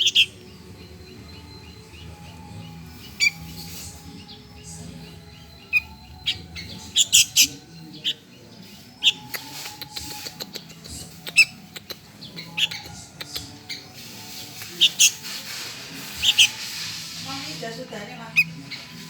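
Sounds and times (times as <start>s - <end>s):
bird chick begging chirps: 0.0s - 14.0s, 14.7s - 15.3s, 16.0s - 17.6s.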